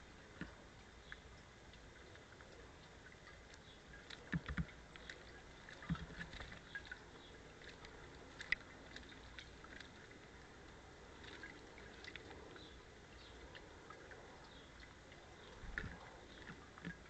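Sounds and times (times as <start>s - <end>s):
water splashing: 0.0s - 17.0s
water dripping: 0.3s - 17.0s.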